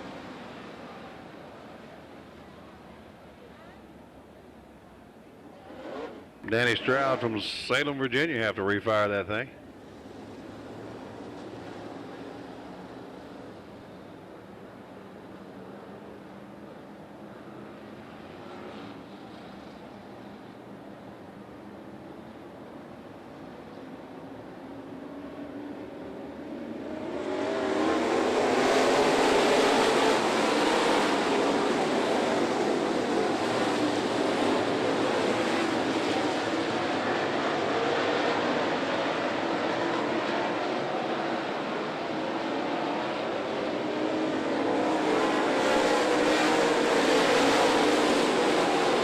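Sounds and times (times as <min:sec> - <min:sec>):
race car engines droning: 0:00.0 - 0:49.0.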